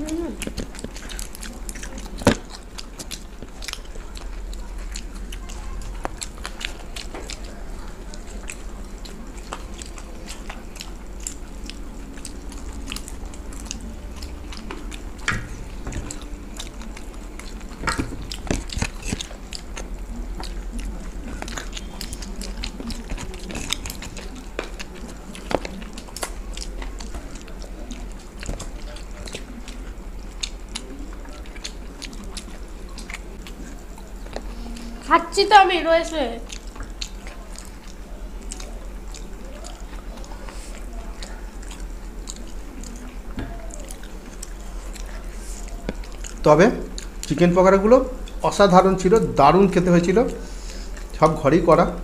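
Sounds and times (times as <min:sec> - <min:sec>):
people chewing and biting food: 0:00.0 - 0:52.0.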